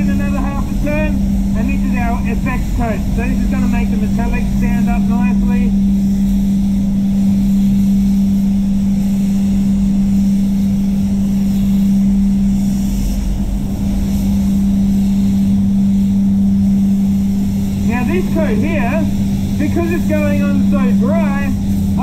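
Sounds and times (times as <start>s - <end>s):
fans humming: 0.0s - 22.0s.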